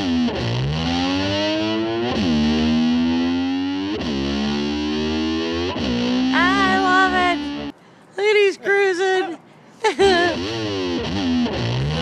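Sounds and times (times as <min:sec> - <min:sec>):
distorted electric guitar: 0:00.0 - 0:07.8, 0:10.0 - 0:12.0.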